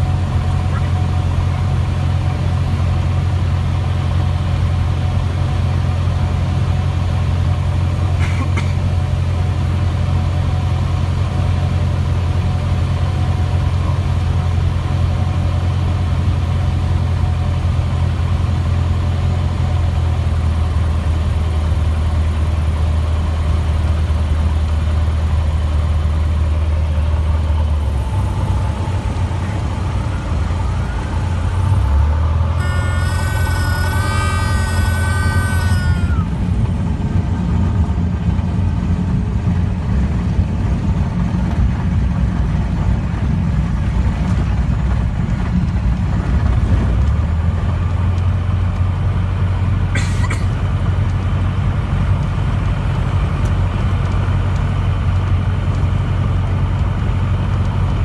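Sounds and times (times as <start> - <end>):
small plane engine droning: 0.0 - 58.0.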